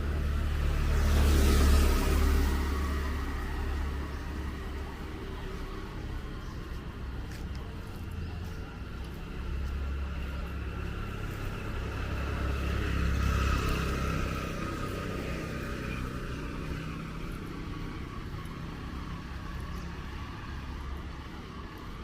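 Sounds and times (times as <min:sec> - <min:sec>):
steady traffic hum: 0:00.0 - 0:22.0
vehicle engine rumble: 0:00.0 - 0:22.0.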